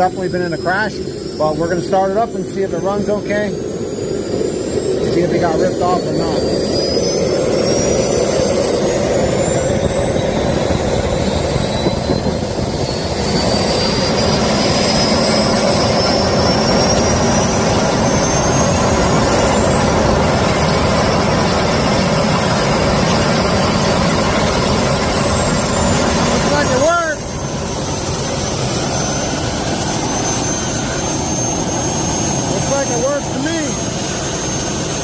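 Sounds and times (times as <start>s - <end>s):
model turbojet engine whine: 0.0s - 35.0s.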